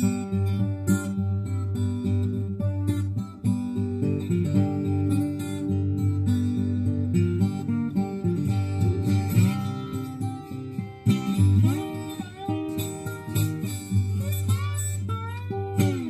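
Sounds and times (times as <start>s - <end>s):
slide acoustic guitar blues: 0.0s - 16.0s.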